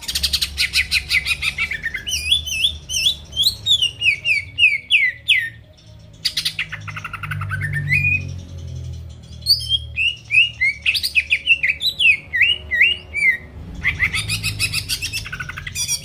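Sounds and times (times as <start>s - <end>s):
bird singing trills and whistles: 0.0s - 16.0s.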